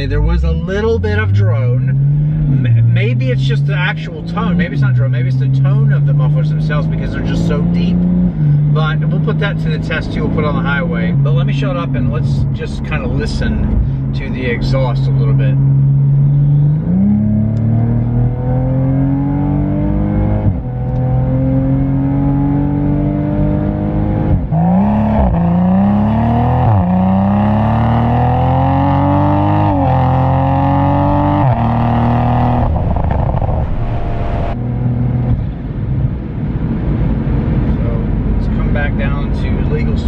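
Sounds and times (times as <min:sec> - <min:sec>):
car exhaust accelerating: 0:00.0 - 0:40.0.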